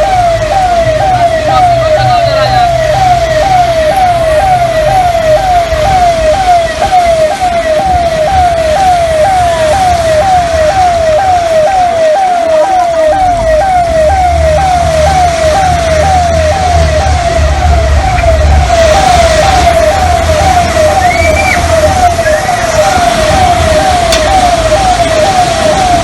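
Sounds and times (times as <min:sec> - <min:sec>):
siren yelping: 0:00.0 - 0:26.0.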